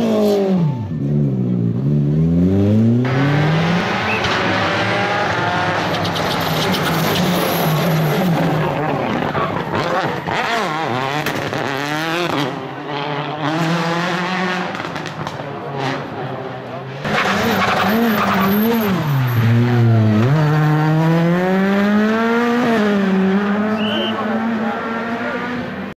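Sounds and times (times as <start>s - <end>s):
rally car engine at full throttle: 0.0s - 25.9s.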